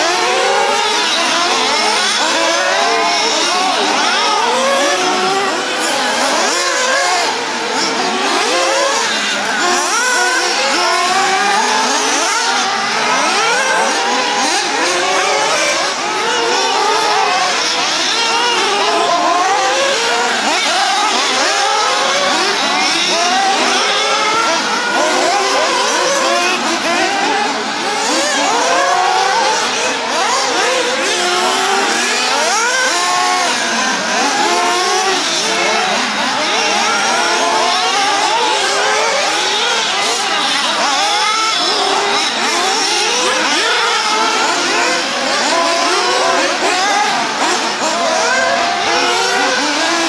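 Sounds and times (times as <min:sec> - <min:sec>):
rc buggy engines whining: 0:00.0 - 0:50.0.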